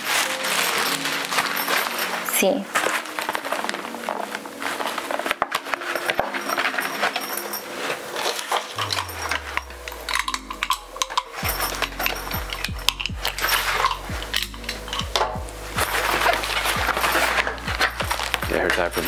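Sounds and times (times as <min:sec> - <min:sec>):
fabric bag and cardboard rustling: 0:00.0 - 0:10.2, 0:11.2 - 0:19.0
quiet background music: 0:00.0 - 0:19.0.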